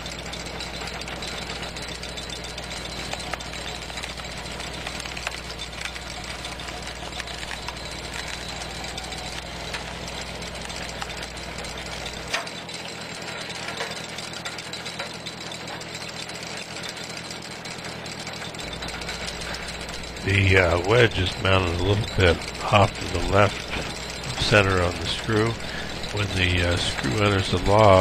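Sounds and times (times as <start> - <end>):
screw log splitter boring into log: 0.0 - 28.0
tractor engine running: 0.0 - 28.0.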